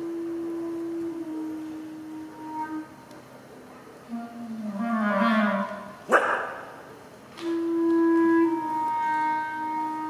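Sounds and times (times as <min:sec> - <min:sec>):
clarinet and electronics: 0:00.0 - 0:06.0, 0:07.4 - 0:10.0.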